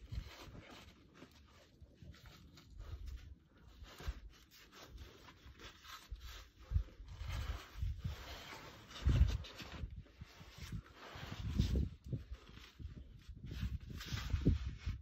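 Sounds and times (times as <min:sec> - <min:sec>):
clothing scraping against granite: 0:00.0 - 0:15.0.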